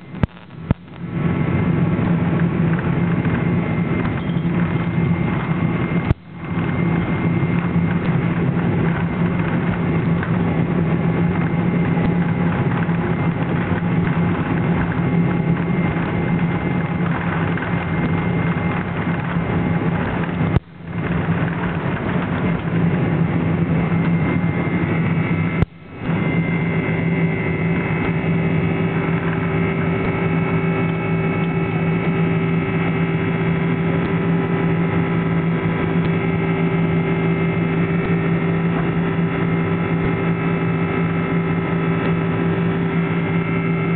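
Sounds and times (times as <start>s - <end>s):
jet engines roaring in cabin: 0.0s - 43.9s
steady engine whine: 0.0s - 43.9s.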